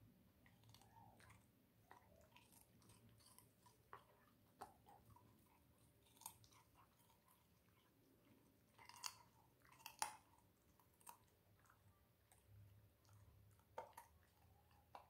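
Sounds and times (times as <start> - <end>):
dog crunching carrot: 0.4 - 15.0.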